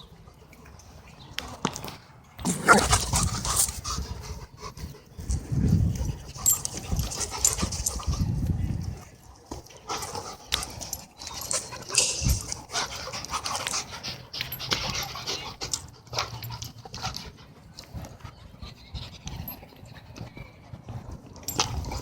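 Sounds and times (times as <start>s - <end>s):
dogs panting: 2.6s - 22.0s.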